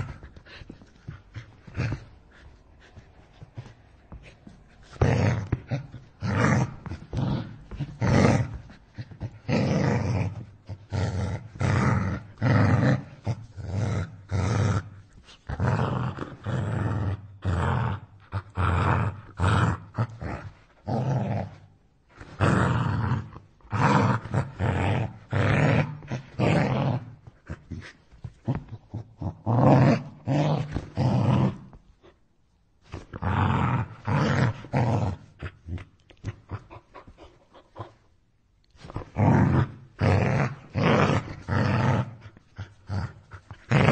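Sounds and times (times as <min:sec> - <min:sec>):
dog snarling and growling: 0:00.0 - 0:31.8, 0:32.9 - 0:38.1, 0:38.8 - 0:43.9.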